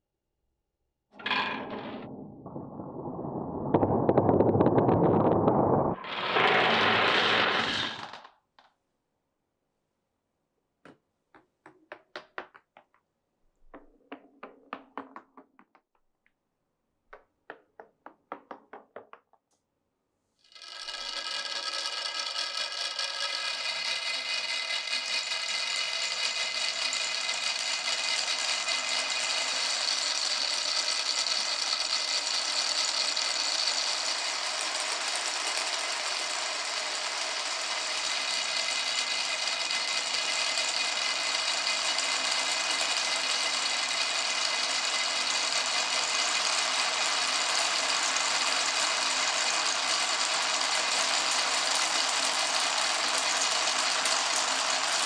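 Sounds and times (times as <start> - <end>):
marbles rolling on wooden run: 1.2 - 8.3, 11.4 - 13.0, 13.7 - 15.9, 20.5 - 55.0.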